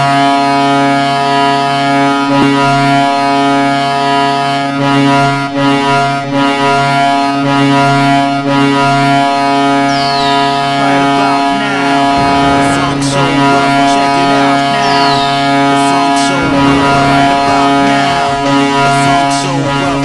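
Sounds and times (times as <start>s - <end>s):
hockey goal horn blast: 0.0s - 20.0s.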